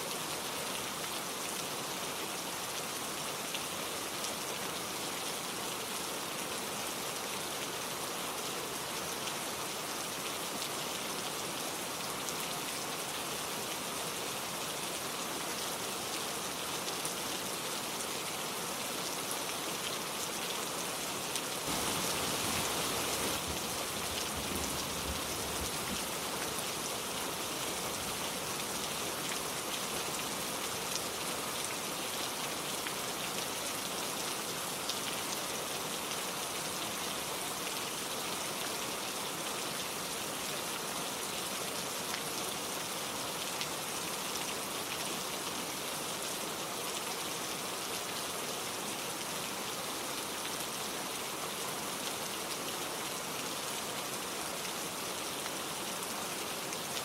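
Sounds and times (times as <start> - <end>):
gentle rain pattering: 0.0 - 57.0.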